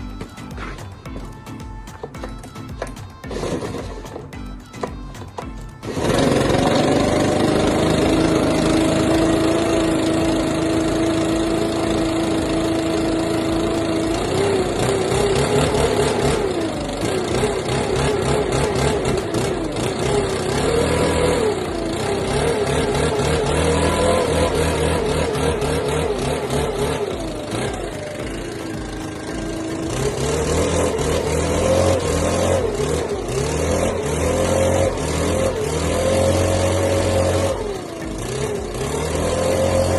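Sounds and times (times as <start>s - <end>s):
leaf blower engine revving: 0.0s - 39.9s.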